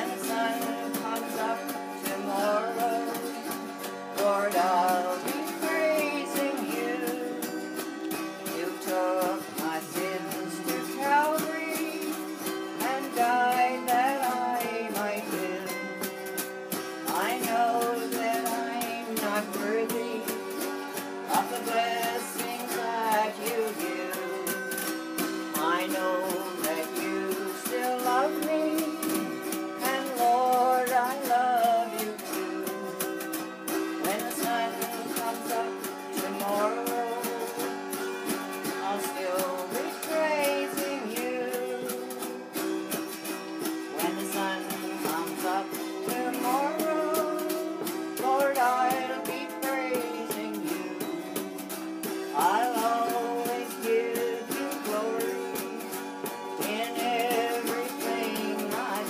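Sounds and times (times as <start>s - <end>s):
voices singing a hymn: 0.0s - 7.8s, 8.4s - 16.1s, 17.1s - 20.6s, 21.2s - 33.1s, 34.0s - 37.9s, 38.8s - 42.3s, 43.9s - 51.2s, 52.3s - 59.0s
autoharps strummed in chords: 0.0s - 59.0s.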